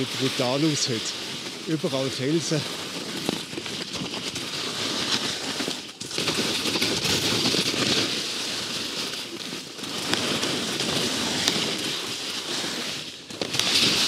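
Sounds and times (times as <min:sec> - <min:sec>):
skis scraping over crusted snow: 0:00.0 - 0:14.0.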